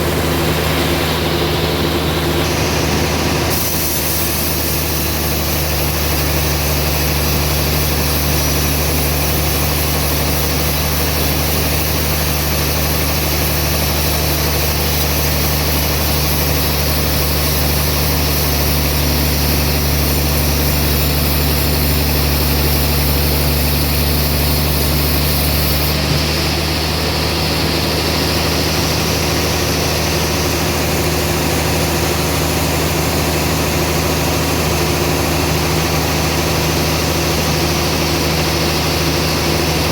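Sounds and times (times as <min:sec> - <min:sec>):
band sawmill humming: 0:00.0 - 0:39.9.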